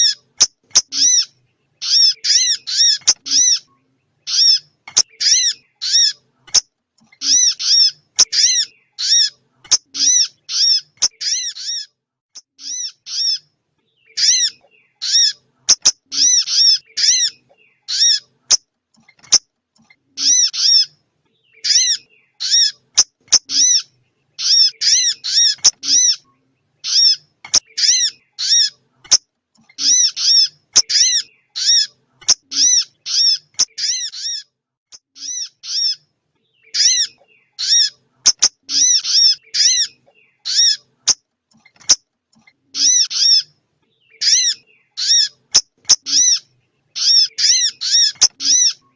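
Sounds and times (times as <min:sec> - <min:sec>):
small bird call: 0:00.0 - 0:48.9.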